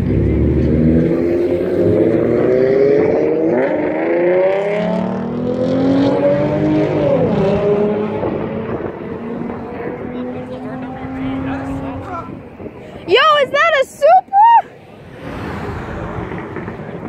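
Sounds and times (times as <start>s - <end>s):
car engine revving hard: 0.0s - 12.1s, 15.0s - 17.0s.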